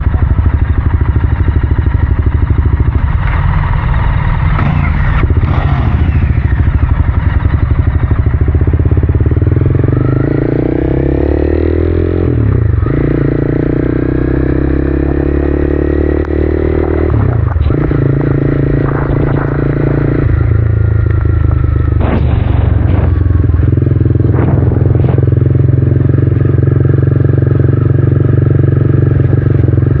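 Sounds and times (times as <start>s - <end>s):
vehicle engine accelerating: 0.0s - 30.0s.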